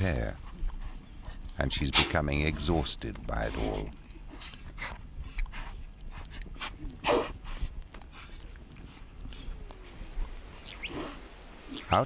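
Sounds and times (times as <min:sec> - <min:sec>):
animals making rough calls: 0:00.0 - 0:12.0.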